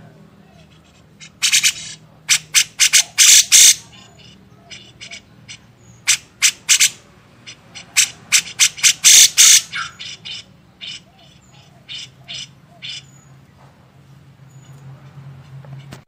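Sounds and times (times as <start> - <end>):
bird chattering calls: 0.5 - 13.4.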